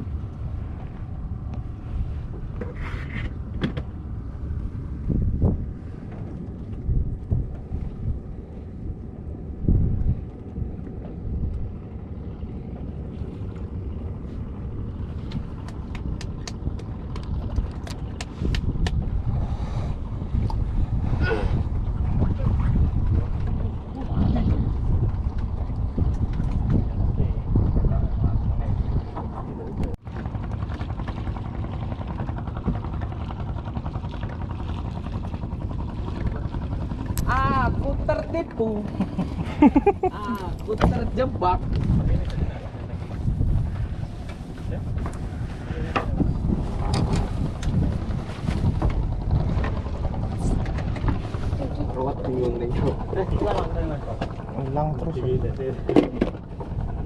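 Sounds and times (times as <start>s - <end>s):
low boat rumble: 0.0s - 57.0s
wind buffeting microphone: 0.0s - 57.0s.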